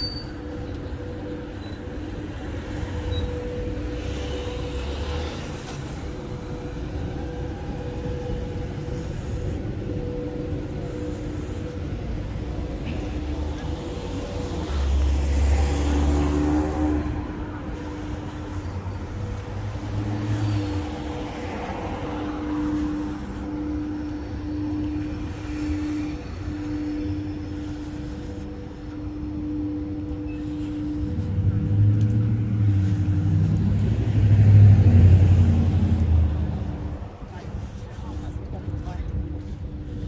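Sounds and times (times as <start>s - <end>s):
engine hum: 0.0s - 40.0s
passing vehicles rumbling: 0.0s - 40.0s.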